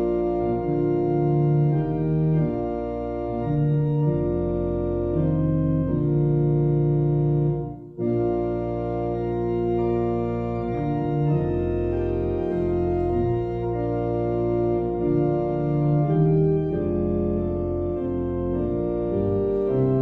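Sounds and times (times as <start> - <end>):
church organ playing a hymn: 0.0 - 20.0.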